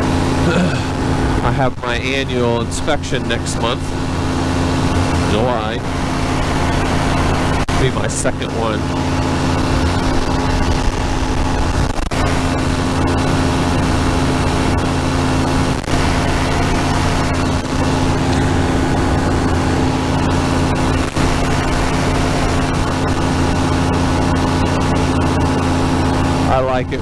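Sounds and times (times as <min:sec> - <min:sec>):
engine and propeller drone: 0:00.0 - 0:27.0.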